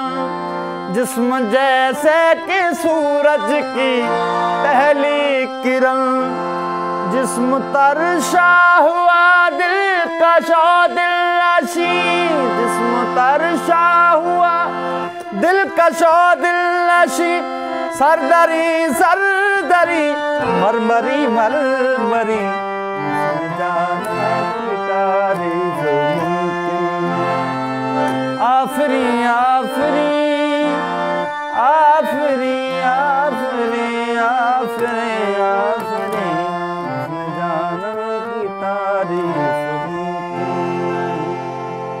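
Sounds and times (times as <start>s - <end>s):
harmonium melody: 0.0s - 42.0s.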